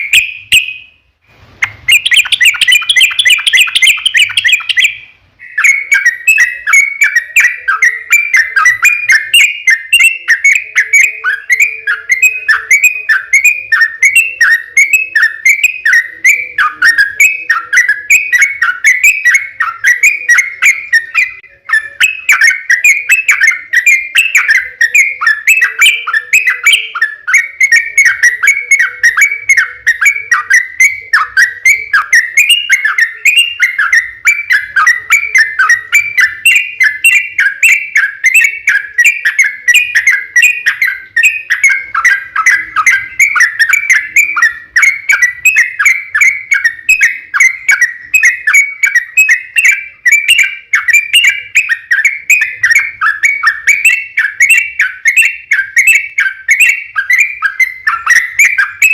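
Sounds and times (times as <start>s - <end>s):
bird chattering song: 0.0s - 1.0s, 1.6s - 58.9s.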